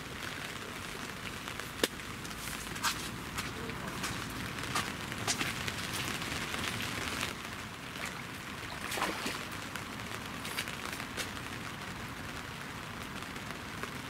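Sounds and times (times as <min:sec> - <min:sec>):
rain hissing: 0:00.0 - 0:14.0
raindrops ticking close by: 0:00.0 - 0:14.0.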